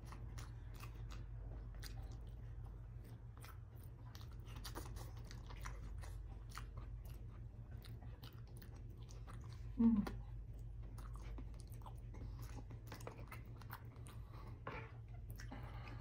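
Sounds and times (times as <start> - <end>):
chewing with wet mouth clicks: 0.0 - 16.0
steady low hum: 0.0 - 16.0.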